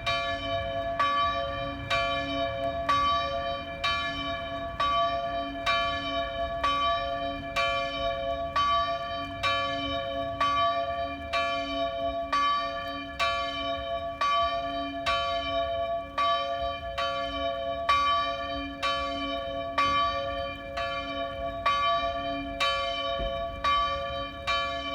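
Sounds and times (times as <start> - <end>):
church bell tolling: 0.0 - 24.9.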